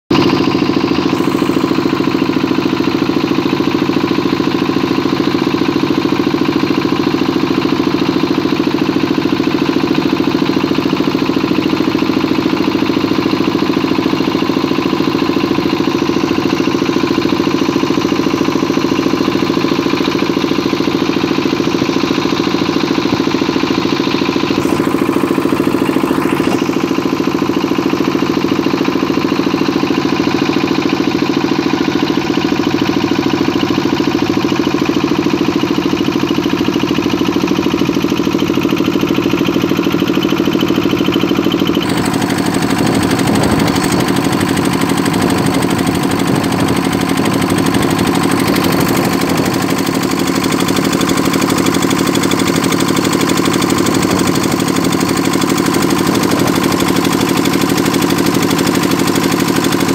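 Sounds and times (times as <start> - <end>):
boat engine running: 0.1 - 59.9.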